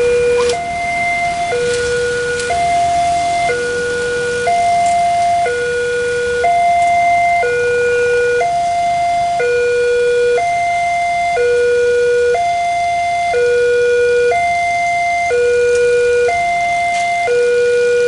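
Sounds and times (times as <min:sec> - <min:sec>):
two-tone electronic crossing alarm: 0:00.0 - 0:18.0.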